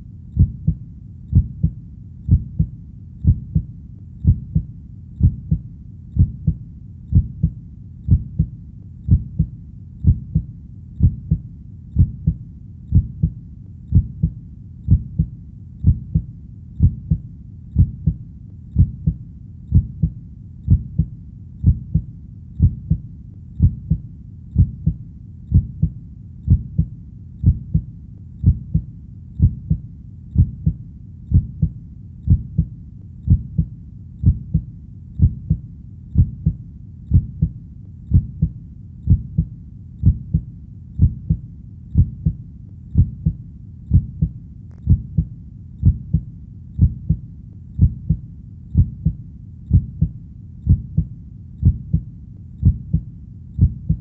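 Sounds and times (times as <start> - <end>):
faint low hum: 0.0 - 54.0
heartbeat thumps: 0.4 - 54.0.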